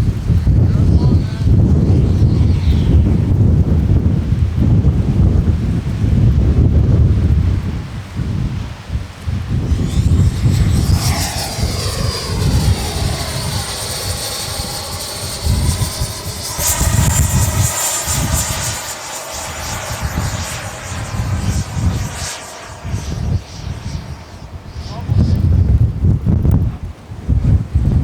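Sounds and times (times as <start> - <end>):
jet fan whine flying past: 0.0 - 5.4, 9.4 - 26.6
wind rumble on microphone: 0.0 - 28.0.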